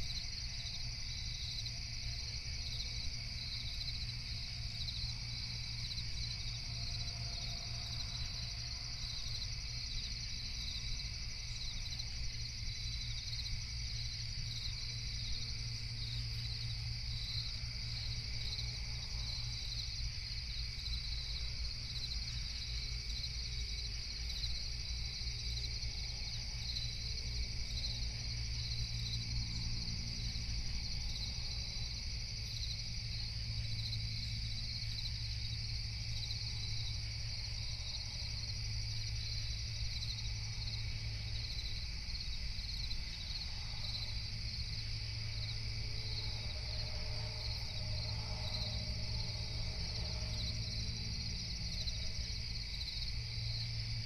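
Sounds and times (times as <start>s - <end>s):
crickets chirring: 0.0s - 54.0s
low steady rumble: 0.0s - 54.0s.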